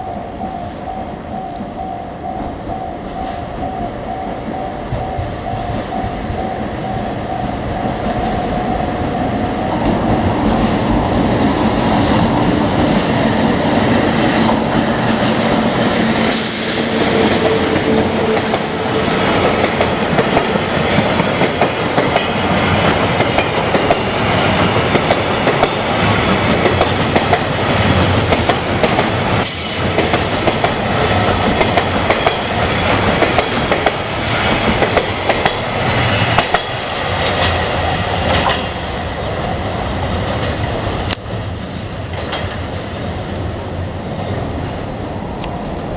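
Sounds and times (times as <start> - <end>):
train wheels clacking: 0.2 - 39.1.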